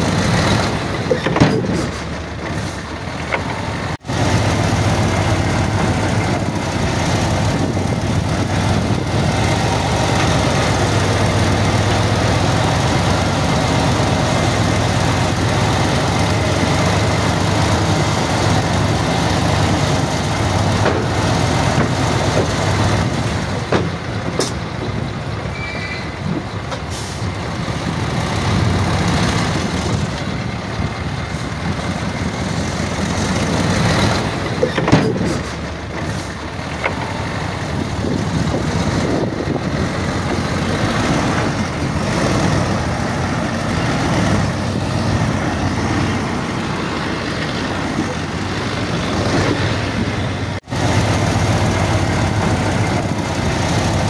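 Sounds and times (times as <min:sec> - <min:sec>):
diesel machinery engine drone: 0:00.0 - 0:54.0.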